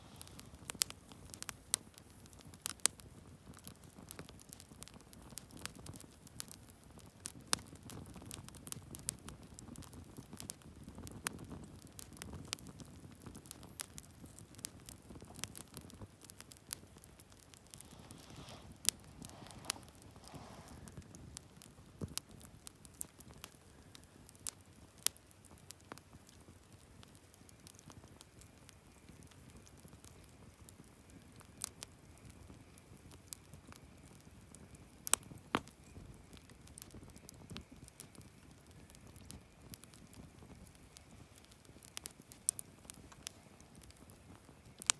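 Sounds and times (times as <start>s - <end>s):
campfire crackling and popping: 0.0s - 44.9s
soft hiss of flames: 0.0s - 44.9s.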